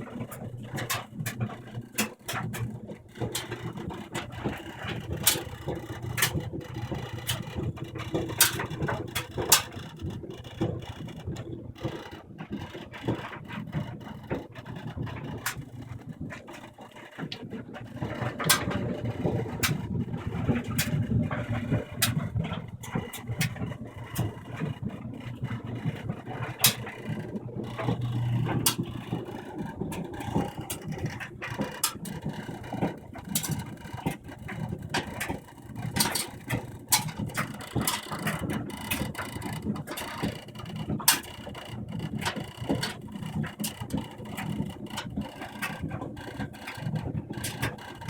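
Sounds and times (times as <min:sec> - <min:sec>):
clothes dryer rumbling: 0:00.0 - 0:48.0.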